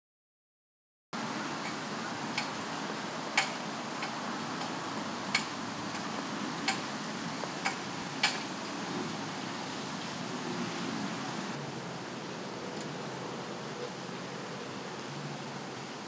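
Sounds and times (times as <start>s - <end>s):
steady hiss: 1.2s - 16.0s.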